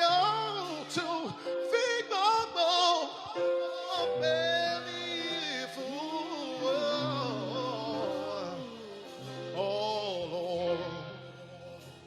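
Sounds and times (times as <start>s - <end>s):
person singing melismatic line: 0.0s - 12.0s.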